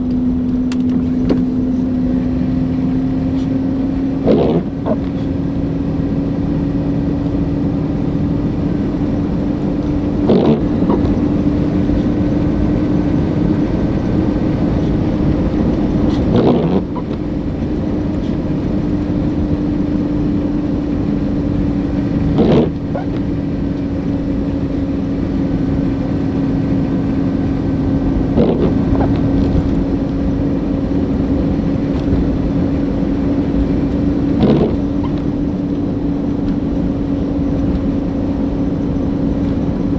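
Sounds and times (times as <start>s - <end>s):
vehicle driving road noise: 0.0s - 39.9s.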